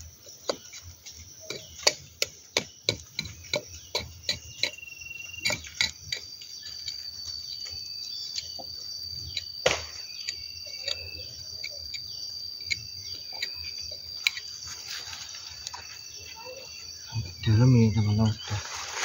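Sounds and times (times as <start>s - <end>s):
insect buzzing: 0.0s - 19.0s
knife knocking and scraping bark: 0.2s - 15.9s.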